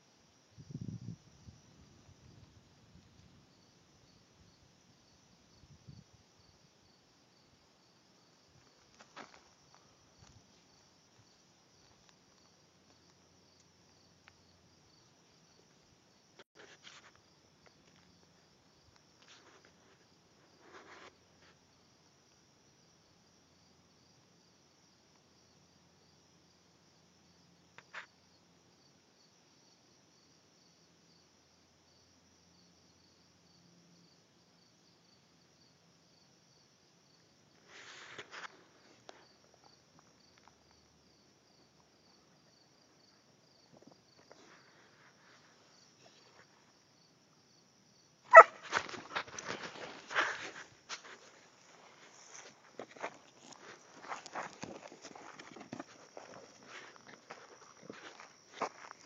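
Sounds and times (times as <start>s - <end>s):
insect chirping trill: 0.0s - 37.8s, 38.4s - 59.0s.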